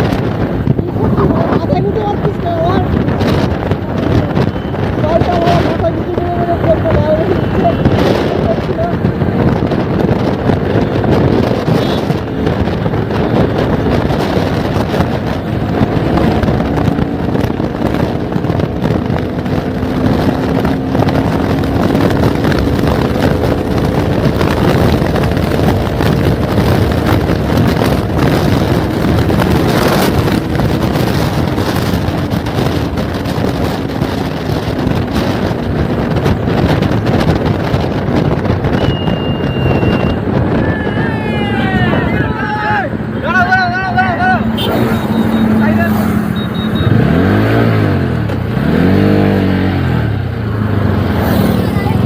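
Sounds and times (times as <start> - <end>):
motorcycle engine running: 0.0 - 40.6, 42.9 - 52.0
wind rush on microphone: 0.0 - 52.0.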